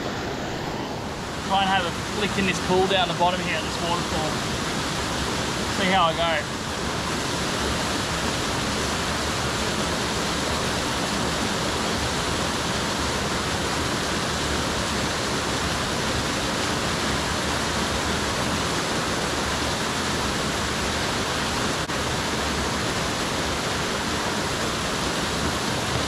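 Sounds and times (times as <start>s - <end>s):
waterfall over rocks: 0.0s - 26.0s.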